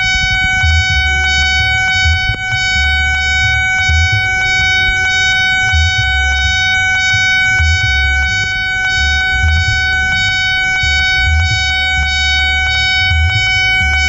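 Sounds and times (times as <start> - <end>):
level crossing alarm ringing: 0.0 - 14.0
low rumble: 0.0 - 14.0.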